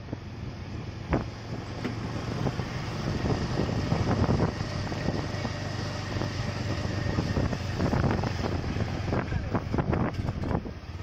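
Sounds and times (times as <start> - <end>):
motorcycle engines running: 0.0 - 11.0
traffic passing: 0.0 - 11.0
wind buffeting microphone: 0.0 - 11.0.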